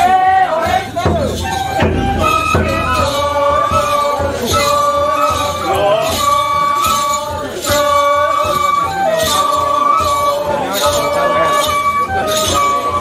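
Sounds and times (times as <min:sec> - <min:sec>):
bamboo flute long notes: 0:00.0 - 0:13.0
taiko drum beats: 0:00.0 - 0:13.0.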